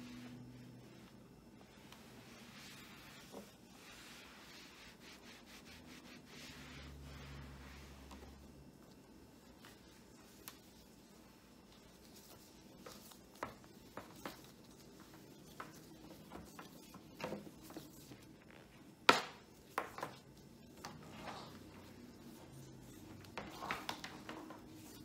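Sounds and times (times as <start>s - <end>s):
soft cloth rustling: 0.0s - 25.0s.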